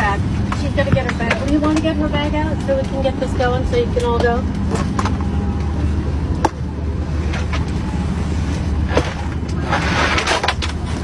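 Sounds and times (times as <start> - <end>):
airliner cabin hum: 0.0 - 11.0
passenger murmur: 0.0 - 11.0.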